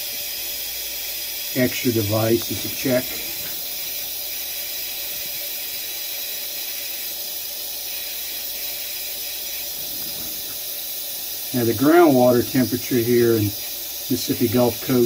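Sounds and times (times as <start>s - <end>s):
water running from faucet: 0.0s - 15.0s.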